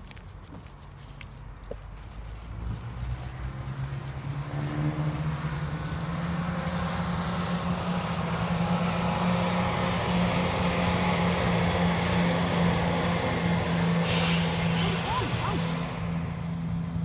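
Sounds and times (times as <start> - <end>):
wheel and track rumble: 0.0 - 17.0
train engine drone: 2.0 - 17.0.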